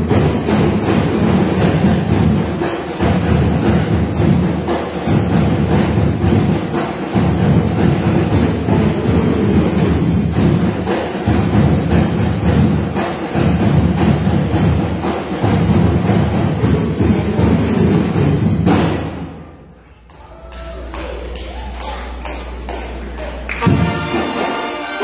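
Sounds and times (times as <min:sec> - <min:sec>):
brass band playing: 0:00.0 - 0:19.5, 0:23.5 - 0:25.0
drums striking a beat: 0:00.0 - 0:19.7, 0:22.4 - 0:25.0.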